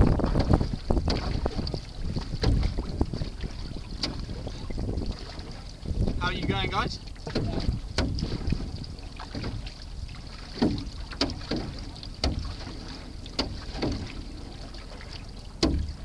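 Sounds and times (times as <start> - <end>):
canoe paddle splashing: 0.0 - 16.0
wind rumbling on microphone: 0.0 - 16.0.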